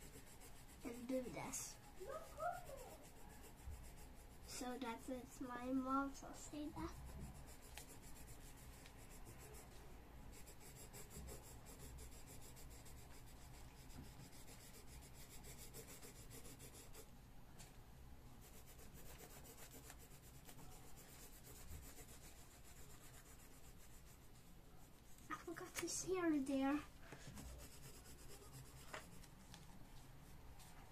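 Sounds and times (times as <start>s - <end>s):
pencil scratching on paper: 0.0s - 17.1s, 18.4s - 29.3s.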